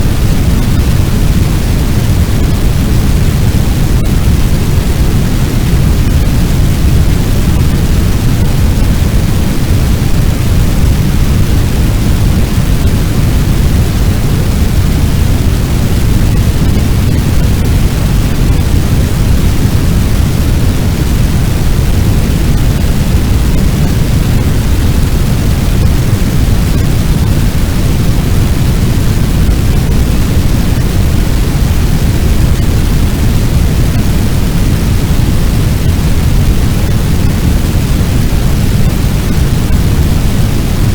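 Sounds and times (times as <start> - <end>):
large blaze rumbling: 0.0 - 40.9.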